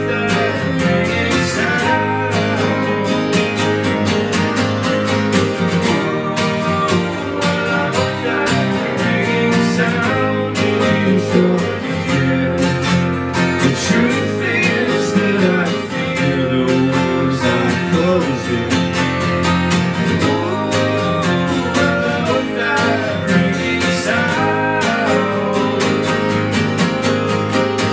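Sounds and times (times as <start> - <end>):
acoustic guitars strummed: 0.0 - 27.9.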